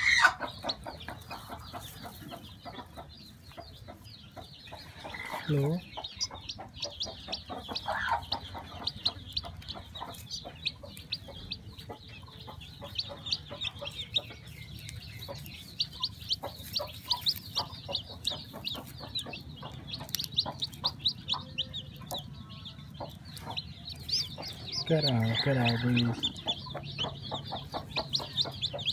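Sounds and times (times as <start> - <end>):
chick peeping: 0.0 - 28.9
eggshell crackling: 5.0 - 28.9.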